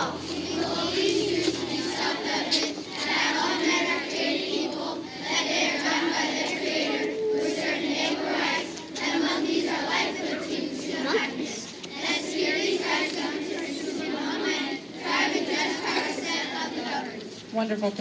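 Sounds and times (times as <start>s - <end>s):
children reciting in unison: 0.0s - 17.5s.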